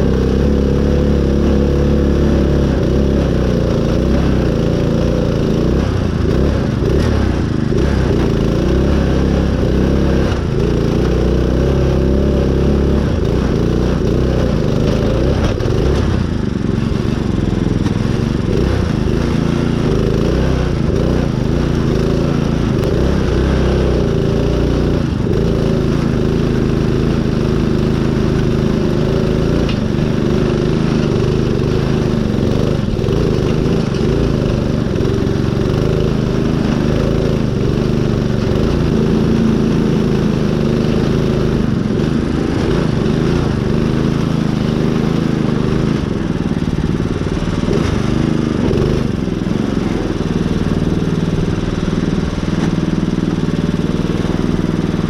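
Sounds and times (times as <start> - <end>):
riding mower engine running: 0.0 - 55.0.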